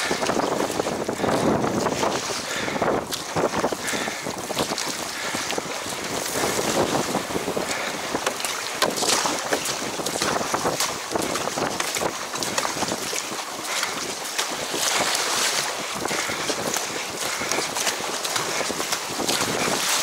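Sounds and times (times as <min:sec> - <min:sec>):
choppy water slapping hull: 0:00.0 - 0:20.0
paddle strokes splashing: 0:00.0 - 0:20.0
wind buffeting microphone: 0:00.0 - 0:20.0.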